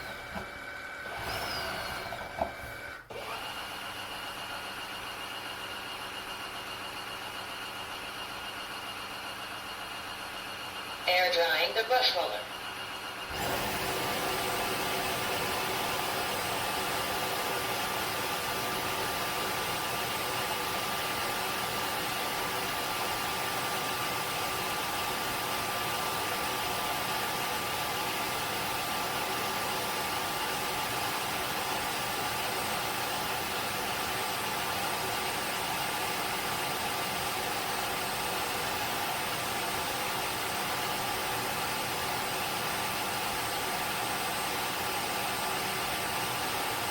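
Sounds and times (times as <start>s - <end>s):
floor cleaner motor whirring: 0.0s - 11.2s, 12.5s - 46.9s.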